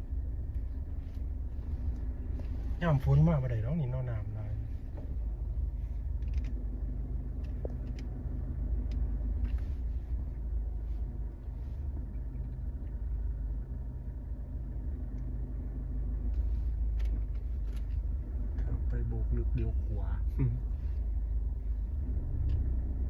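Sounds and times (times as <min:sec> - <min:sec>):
knocks and rattles from rough road: 0:00.0 - 0:23.0
vehicle engine and road rumble: 0:00.0 - 0:23.0.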